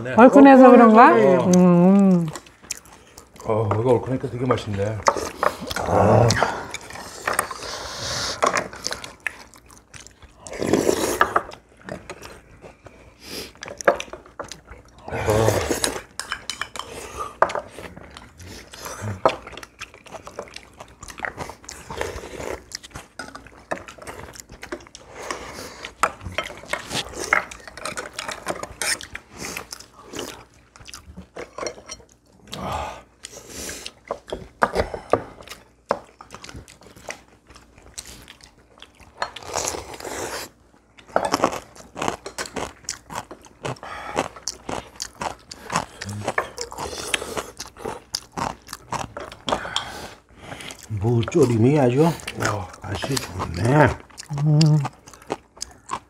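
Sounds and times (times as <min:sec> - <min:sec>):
people chewing: 0:00.1 - 0:56.0.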